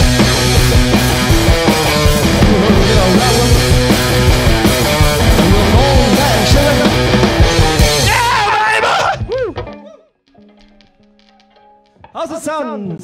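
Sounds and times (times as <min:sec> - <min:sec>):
live punk rock band playing: 0:00.0 - 0:12.1.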